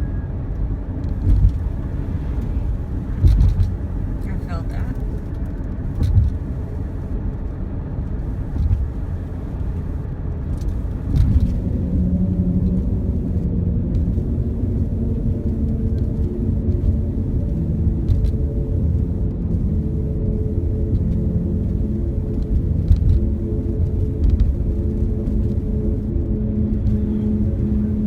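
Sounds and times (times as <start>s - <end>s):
road and wind rumble inside car: 0.0s - 28.0s
steady low hum: 0.0s - 28.0s.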